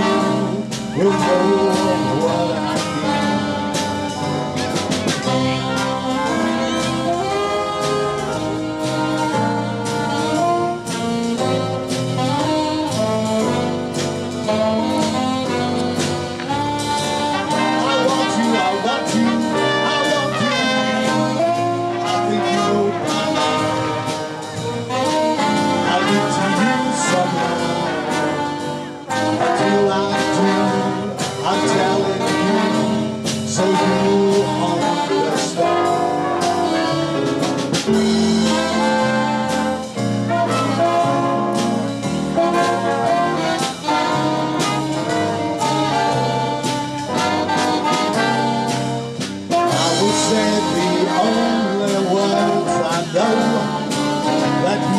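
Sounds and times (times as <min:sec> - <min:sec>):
brass band playing: 0:00.0 - 0:54.9.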